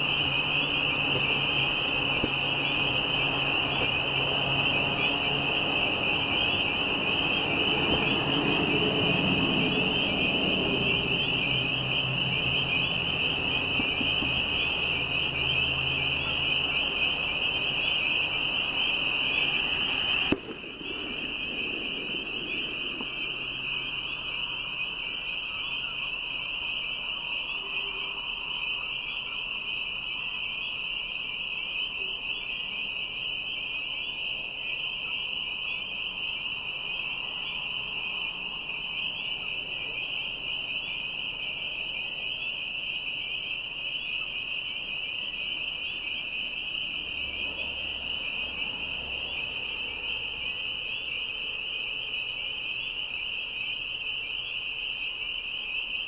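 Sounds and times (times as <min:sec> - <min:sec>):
frogs peeping: 0:00.0 - 0:56.0.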